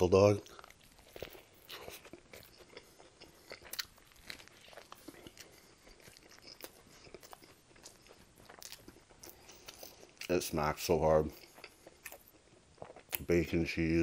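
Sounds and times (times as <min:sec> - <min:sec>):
wet chewing mouth clicks: 0:00.4 - 0:10.4, 0:11.3 - 0:13.3.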